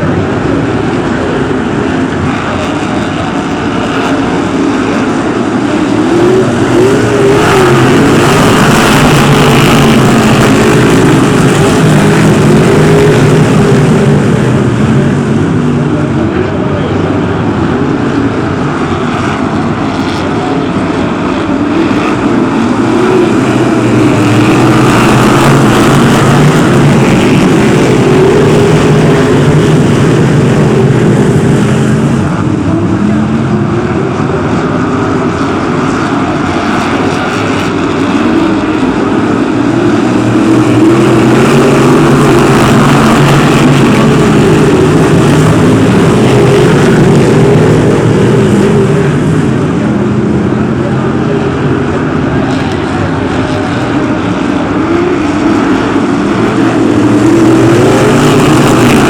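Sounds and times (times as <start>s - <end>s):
racing car engines roaring: 0.0s - 59.0s.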